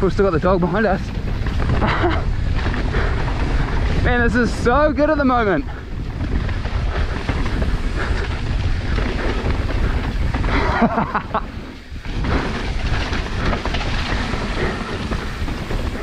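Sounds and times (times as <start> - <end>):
mountain bike rattle and tyre noise: 0.0 - 16.0
wind buffeting microphone: 0.0 - 16.0.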